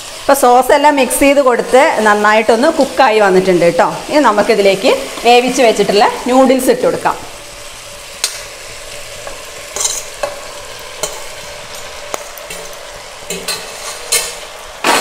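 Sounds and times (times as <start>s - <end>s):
vegetables sizzling in pot: 0.0s - 15.0s.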